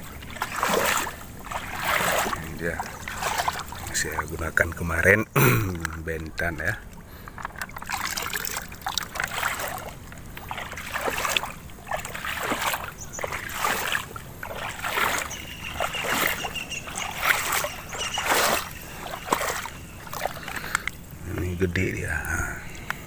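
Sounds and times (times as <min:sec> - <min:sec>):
shallow water splashing: 0:00.0 - 0:23.0.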